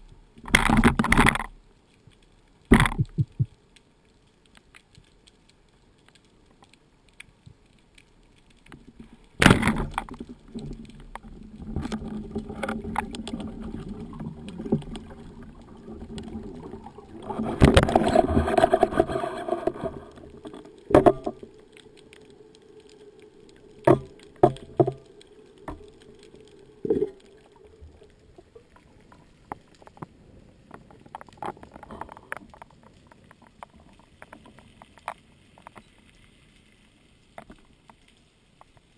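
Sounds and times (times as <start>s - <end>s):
clicks and knocks underwater: 0.0s - 36.6s, 37.2s - 38.9s.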